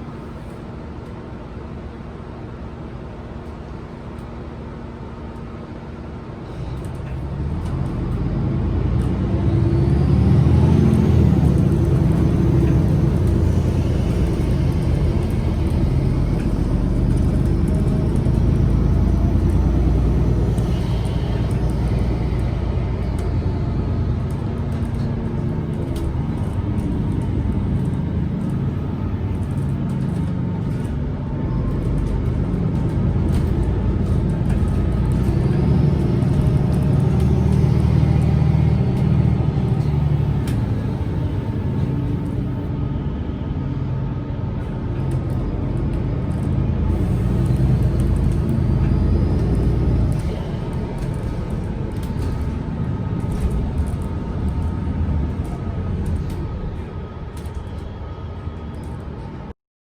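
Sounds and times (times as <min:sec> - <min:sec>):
bus engine rumble: 0:00.0 - 0:59.5.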